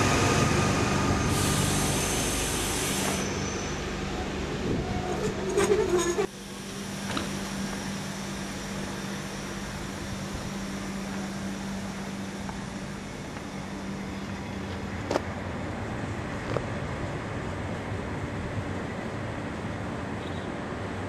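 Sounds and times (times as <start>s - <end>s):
passenger train rolling past: 0.0s - 21.0s.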